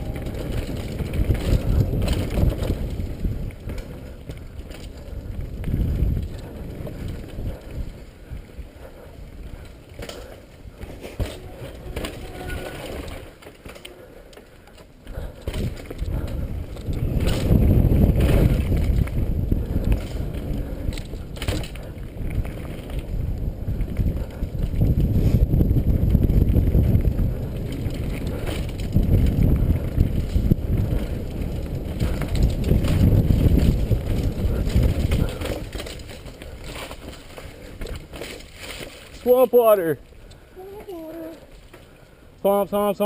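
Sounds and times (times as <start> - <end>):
bike chain and frame rattling: 0.0 - 39.4
bike tyres rumbling on dirt: 0.0 - 42.2.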